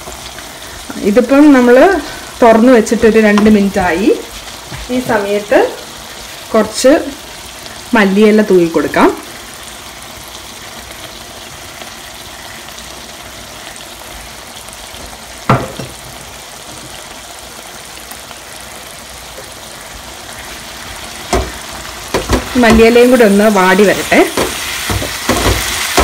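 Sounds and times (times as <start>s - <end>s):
curry sizzling in a frying pan: 0.0s - 26.0s.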